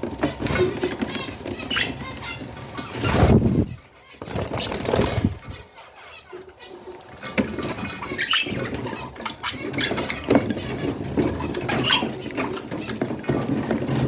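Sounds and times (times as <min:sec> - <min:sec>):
budgies chirping: 0:00.0 - 0:14.0.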